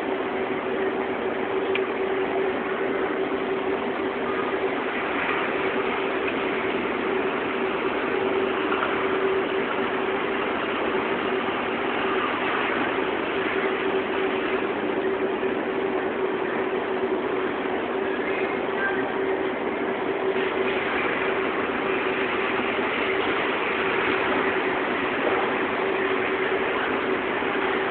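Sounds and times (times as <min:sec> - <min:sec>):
constant machine hum: 0:00.0 - 0:27.9
fabric spreading machine whirring: 0:00.0 - 0:27.9.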